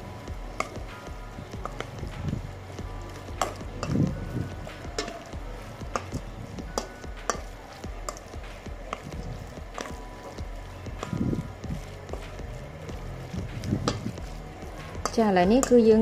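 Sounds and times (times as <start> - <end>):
wet squelching of stirred filling: 0.0 - 16.0.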